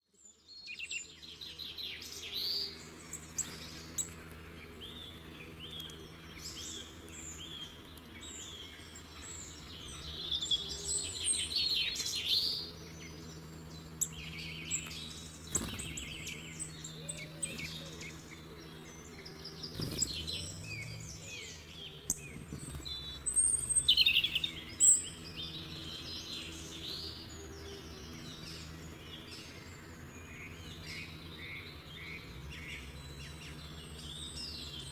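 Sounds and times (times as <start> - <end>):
birds singing and chirping: 0.0 - 34.9
faint low hum: 0.1 - 34.9.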